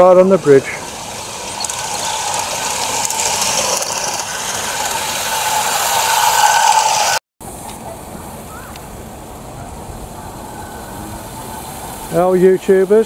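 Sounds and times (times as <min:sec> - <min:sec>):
model steam locomotive running: 0:00.0 - 0:07.2, 0:08.2 - 0:13.0.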